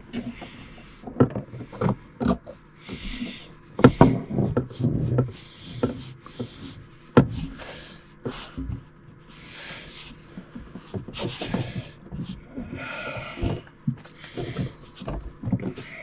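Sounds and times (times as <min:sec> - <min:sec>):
rubbing and rustling: 0:00.0 - 0:16.0.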